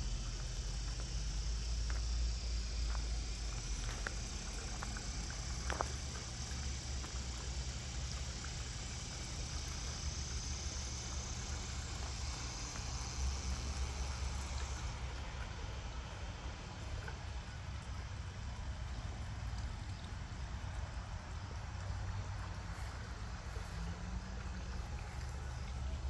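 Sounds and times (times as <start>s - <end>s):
insect chorus: 0.0s - 26.0s
low steady rumble: 0.0s - 26.0s.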